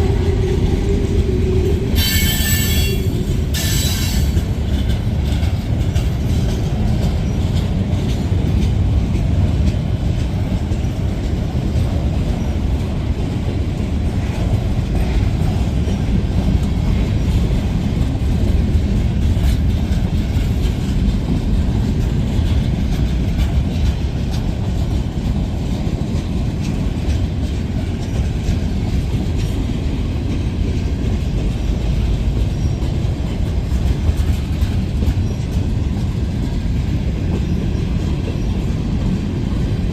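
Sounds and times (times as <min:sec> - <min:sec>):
light clicking of train: 0:00.0 - 0:39.9
train wheels rumbling on rails: 0:00.0 - 0:39.9.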